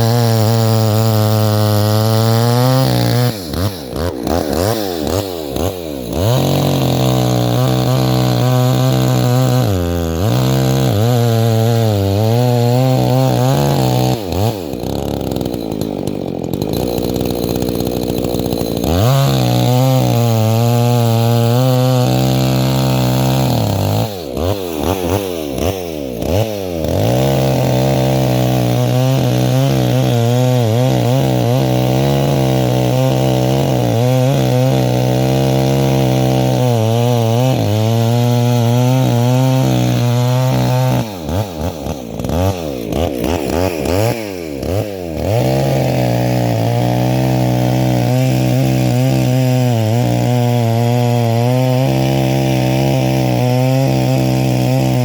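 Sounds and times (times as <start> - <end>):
chainsaw cutting into tree: 0.0 - 55.0.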